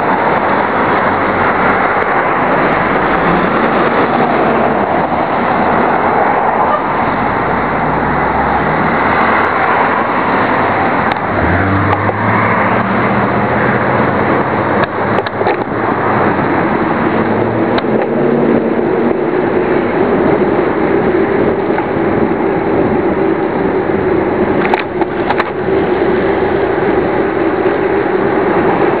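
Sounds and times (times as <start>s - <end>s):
traffic engine hum: 0.0s - 29.0s
wind on microphone: 0.0s - 29.0s.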